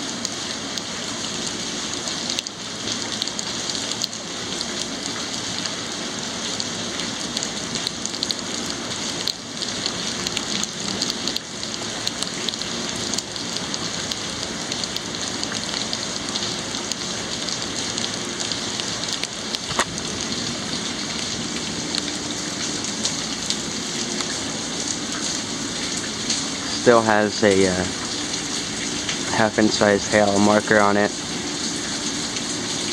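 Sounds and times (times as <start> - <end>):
steady rain hiss: 0.0 - 32.9
sharp raindrop ticks: 0.2 - 32.9.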